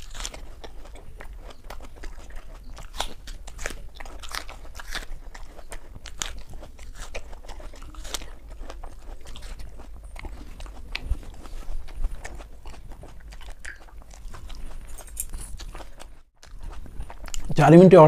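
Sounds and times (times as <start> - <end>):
apple crunching: 0.0 - 17.7.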